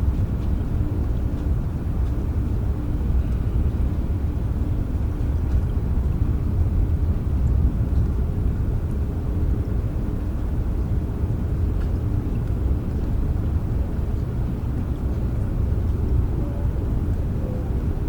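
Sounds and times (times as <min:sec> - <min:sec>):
faint raindrop ticks: 0:00.0 - 0:04.1, 0:04.7 - 0:18.0
rain rumble: 0:00.0 - 0:18.0.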